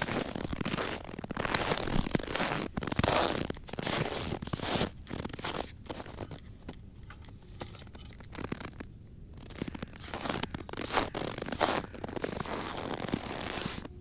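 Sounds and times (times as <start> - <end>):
footsteps crunching on snow: 0.0 - 13.9
small crackles of snow: 0.0 - 14.0.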